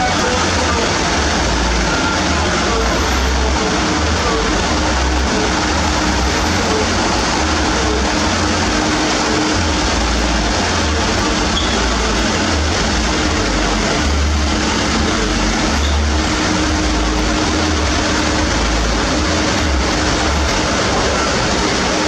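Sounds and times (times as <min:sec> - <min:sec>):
dense wash of noise: 0:00.0 - 0:22.0
heavy truck engine rumbling: 0:00.0 - 0:22.0.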